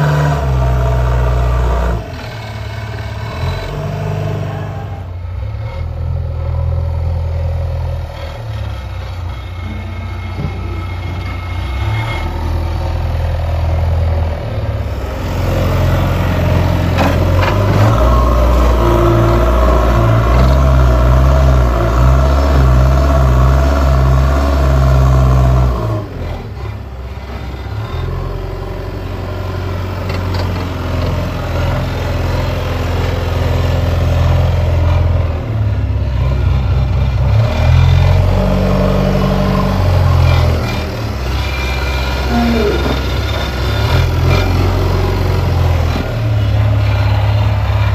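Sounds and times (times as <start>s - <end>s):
diesel engine revving under load: 0.0s - 47.9s.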